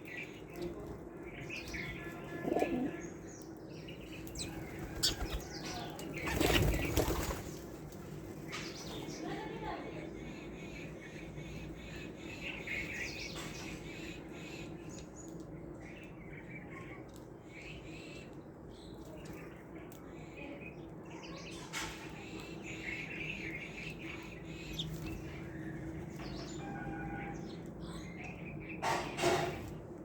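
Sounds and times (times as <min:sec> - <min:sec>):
low background hum: 0:00.0 - 0:30.0
small birds chirping: 0:00.0 - 0:30.0.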